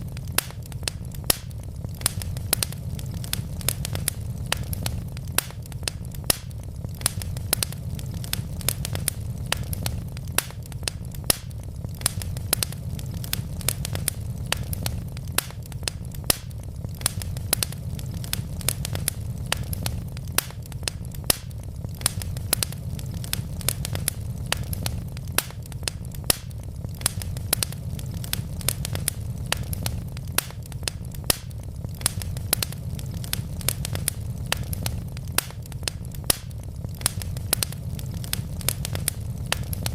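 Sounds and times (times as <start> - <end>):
sharp pops and snaps: 0.0 - 39.9
wood fire crackling: 0.0 - 39.9.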